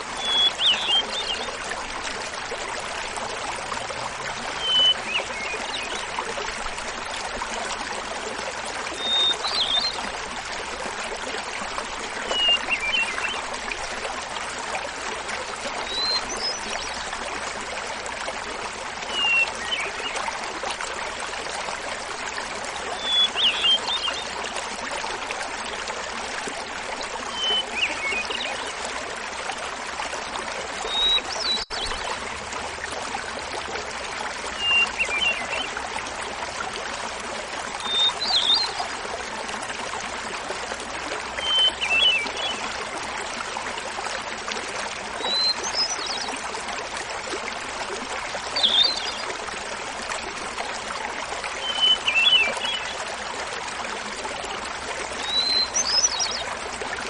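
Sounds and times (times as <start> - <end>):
small waterfall babbling: 0.0 - 57.0.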